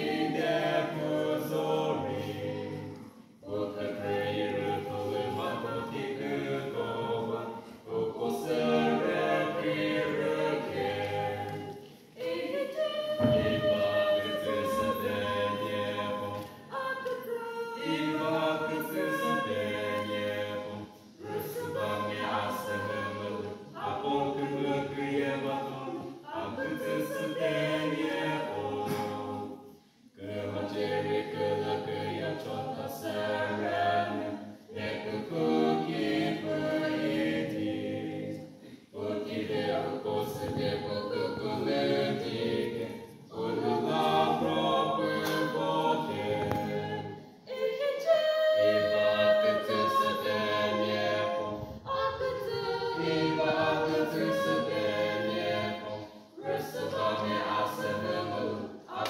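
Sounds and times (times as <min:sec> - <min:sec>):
vocal quartet singing unaccompanied: 0:00.0 - 0:59.0.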